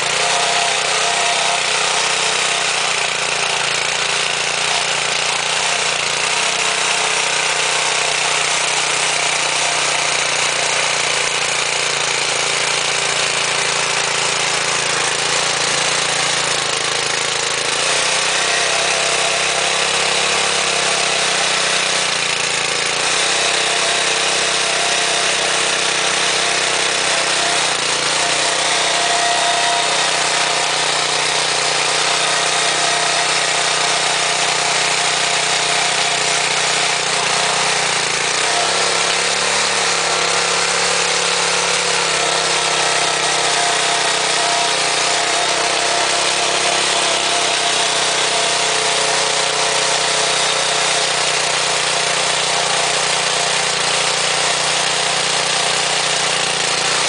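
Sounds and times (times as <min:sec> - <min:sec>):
rotovator engine running: 0:00.0 - 0:51.0.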